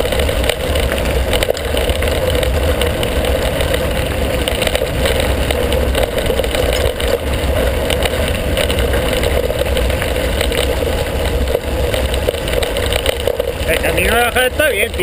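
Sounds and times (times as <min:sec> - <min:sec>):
bike clicking and rattling: 0:00.0 - 0:15.0
bike tyres on gravel: 0:00.0 - 0:15.0.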